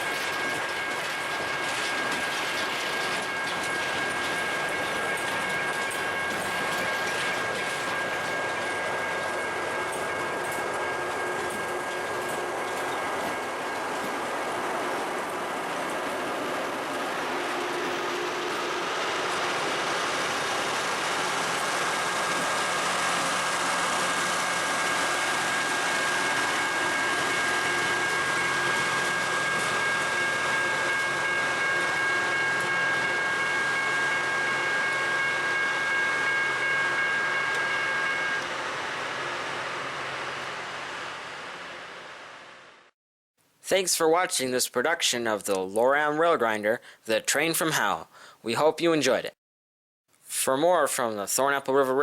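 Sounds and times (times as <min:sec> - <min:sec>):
high whine: 0:00.0 - 0:42.9
rail grinder machinery: 0:00.0 - 0:42.9.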